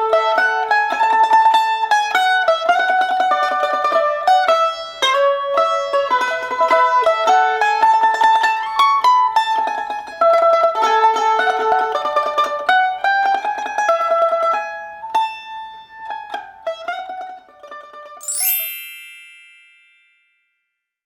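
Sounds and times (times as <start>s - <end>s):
picked mandolin-like string tune: 0.0s - 19.8s.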